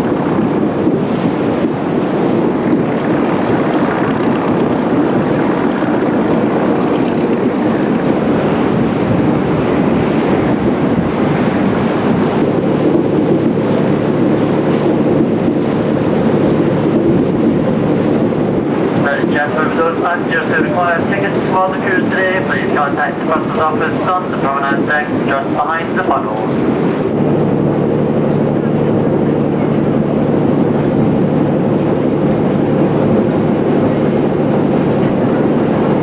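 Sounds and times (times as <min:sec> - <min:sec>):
low machinery hum: 0:00.0 - 0:36.0
rushing water: 0:00.0 - 0:36.0
wind buffeting microphone: 0:00.0 - 0:36.0.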